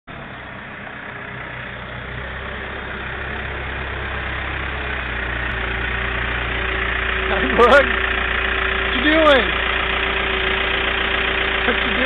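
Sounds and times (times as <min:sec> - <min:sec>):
backhoe engine idling: 0:00.1 - 0:12.0.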